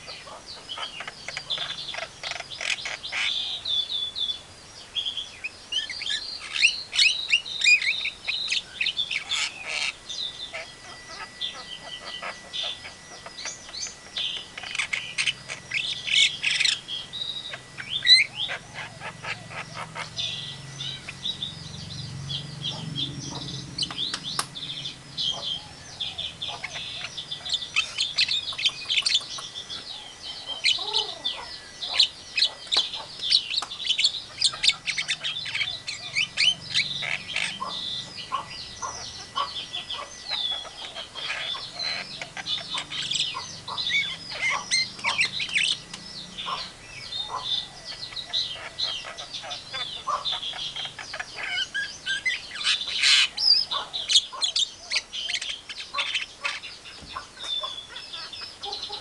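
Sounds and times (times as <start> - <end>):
myna calling: 0.0 - 4.2, 5.4 - 59.0.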